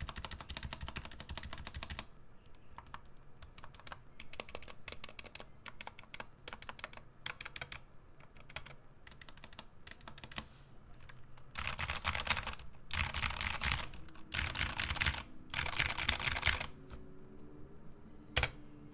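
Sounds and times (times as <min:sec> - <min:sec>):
mechanical keyboard typing: 0:00.0 - 0:02.1, 0:02.7 - 0:17.0, 0:18.4 - 0:18.6.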